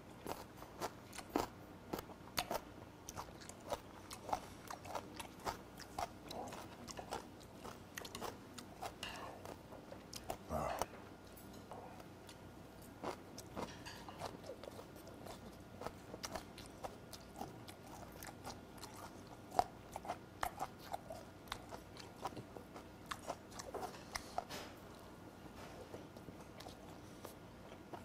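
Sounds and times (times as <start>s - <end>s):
person chewing: 0.1s - 28.0s.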